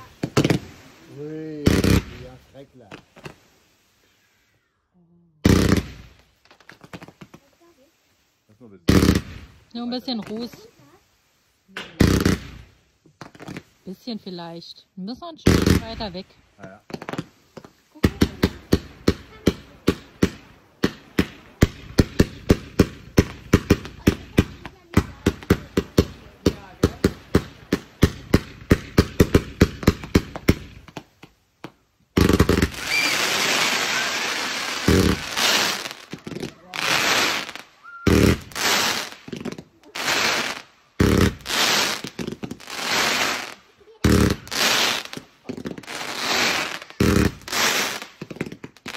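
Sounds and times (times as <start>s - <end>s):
firework bangs: 0.0s - 3.5s, 5.4s - 7.9s, 8.6s - 11.0s, 11.7s - 48.9s.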